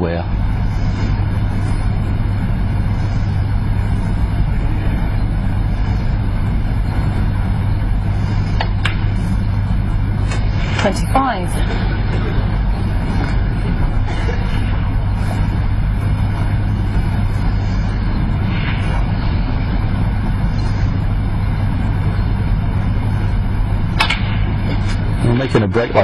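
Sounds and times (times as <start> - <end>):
low hum and rumble: 0.0 - 26.0.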